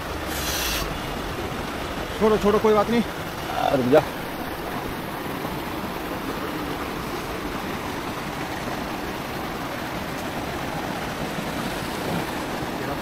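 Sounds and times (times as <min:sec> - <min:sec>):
river flowing over pebbles: 0:00.0 - 0:13.0.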